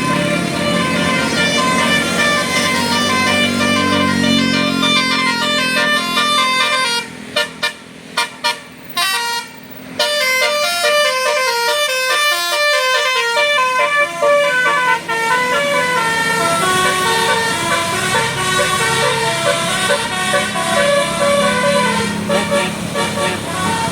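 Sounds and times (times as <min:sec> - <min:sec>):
multi-tone bus horn tune: 0:00.0 - 0:23.9.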